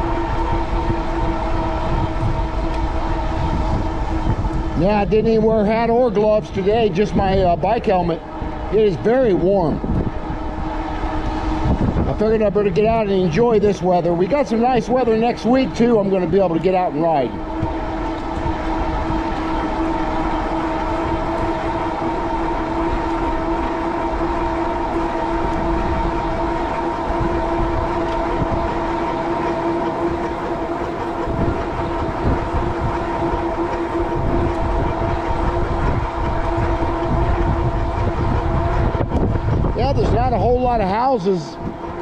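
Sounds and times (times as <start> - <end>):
electric bike motor whining: 0.0 - 6.0, 8.2 - 13.1, 16.7 - 42.0
wind rumbling on microphone: 0.0 - 42.0.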